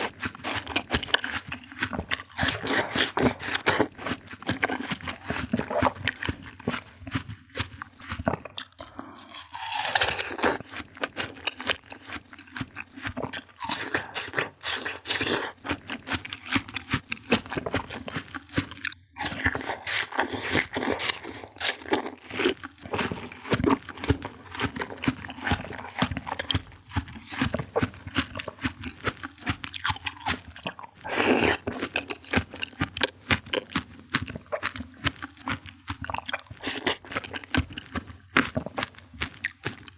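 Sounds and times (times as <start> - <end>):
crisp fruit bites and chewing: 0.0 - 39.9.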